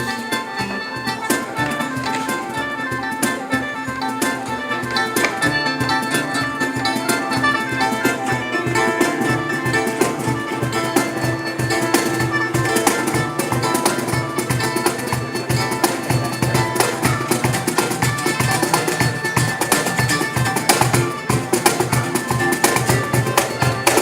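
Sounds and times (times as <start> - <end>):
band playing instrumental: 0.0 - 24.0
plucked string instrument: 0.0 - 24.0.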